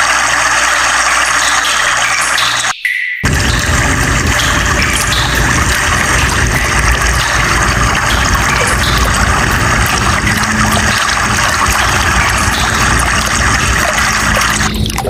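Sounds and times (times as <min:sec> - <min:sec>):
stream of flowing water: 0:00.0 - 0:15.0.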